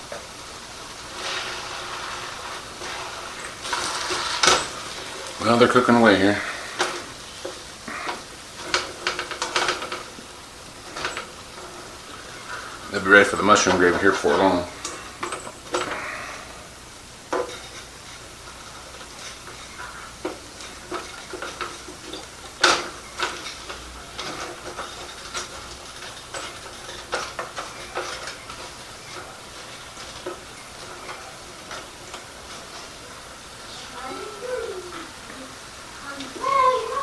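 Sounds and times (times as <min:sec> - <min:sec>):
burgers sizzling in a frying pan: 0:00.0 - 0:37.0.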